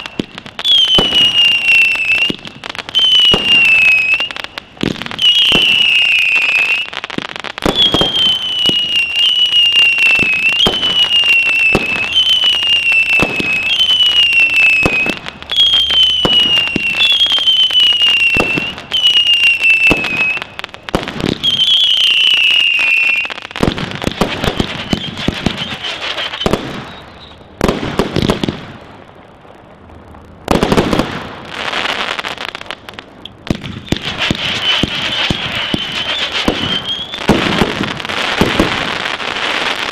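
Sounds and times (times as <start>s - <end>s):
firework whistles: 0.0s - 28.5s, 33.4s - 39.9s
firework bangs: 0.0s - 39.9s
firework crackle and pops: 0.0s - 39.9s.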